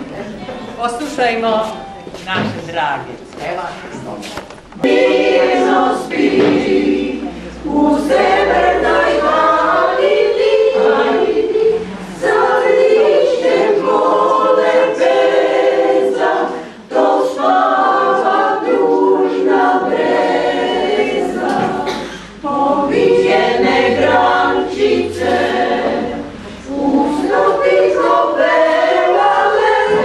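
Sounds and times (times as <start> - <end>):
choir singing a cappella: 4.8 - 30.0.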